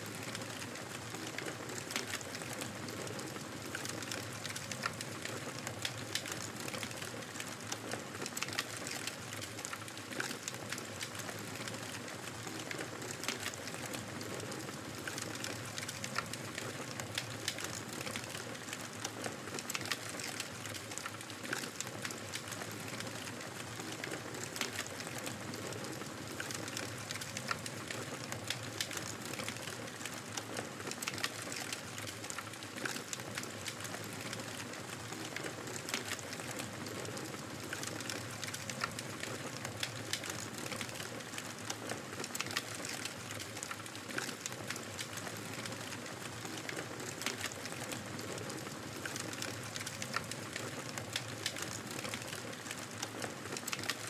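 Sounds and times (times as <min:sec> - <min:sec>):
fire crackling and popping: 0:00.1 - 0:54.0.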